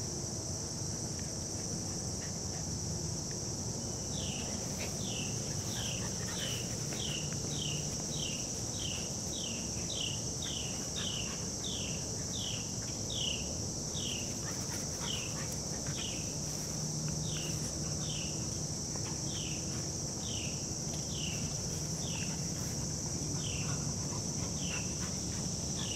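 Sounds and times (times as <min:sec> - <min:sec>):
faint low hum: 0:00.0 - 0:25.9
insect chorus drone: 0:00.0 - 0:25.9.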